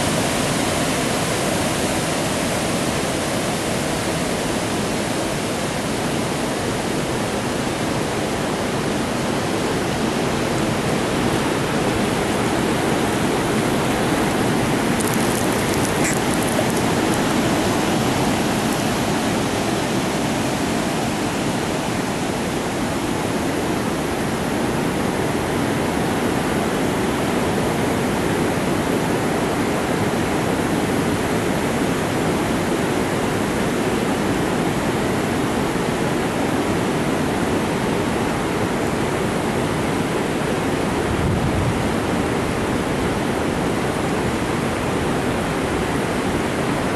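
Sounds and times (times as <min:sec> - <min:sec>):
rushing creek water: 0:00.0 - 0:46.9.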